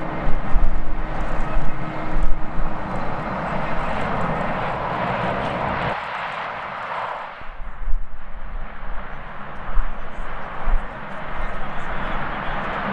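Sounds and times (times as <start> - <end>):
wind buffeting microphone: 0.0 - 6.0, 6.6 - 12.9
jet engines roaring: 0.0 - 12.9.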